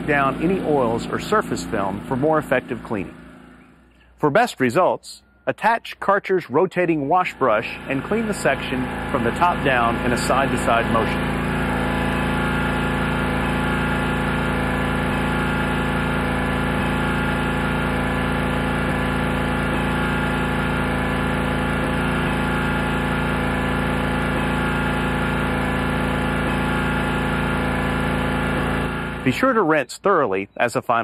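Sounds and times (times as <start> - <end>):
pressure washer engine running: 0.0 - 4.2, 6.6 - 29.8.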